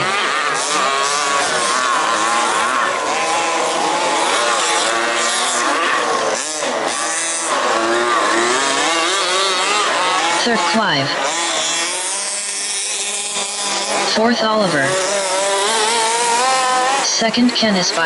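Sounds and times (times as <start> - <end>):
rc car engines revving: 0.0 - 18.0.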